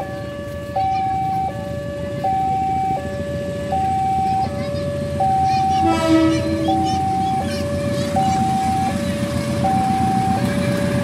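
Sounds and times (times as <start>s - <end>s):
street noise: 0.0s - 11.0s
two-tone crossing alarm: 0.0s - 11.0s.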